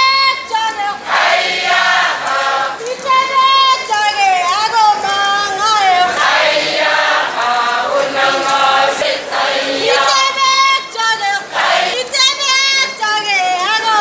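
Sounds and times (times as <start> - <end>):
group singing in chorus: 0.3 - 14.0.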